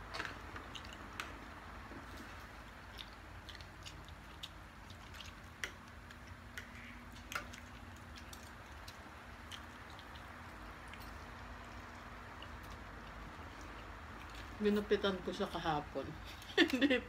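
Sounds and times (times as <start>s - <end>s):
chewing clicks and smacks: 0.1s - 1.5s, 2.1s - 14.6s.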